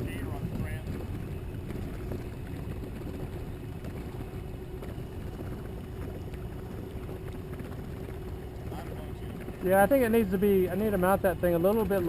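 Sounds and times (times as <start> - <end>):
water and wind on hull: 0.0 - 12.0.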